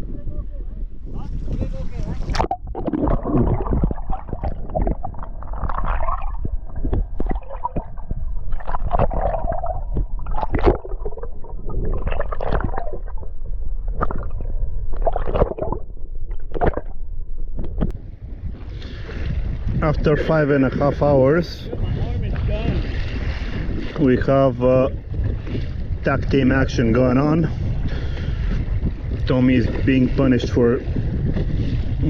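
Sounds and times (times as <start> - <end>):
low rumble: 0.0 - 30.2
water gurgling and sloshing: 0.0 - 32.0.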